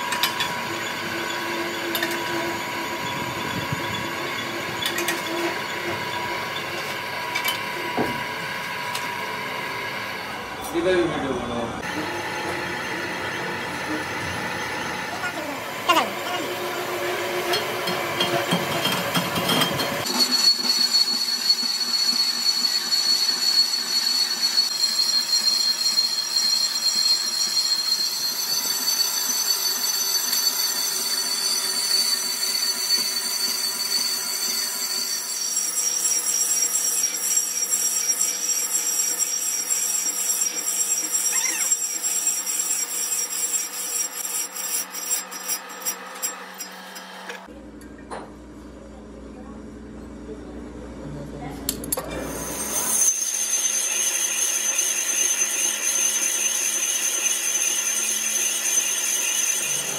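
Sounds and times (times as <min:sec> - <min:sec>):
lathe tool squealing on metal: 0:00.0 - 0:47.5, 0:52.2 - 0:59.9.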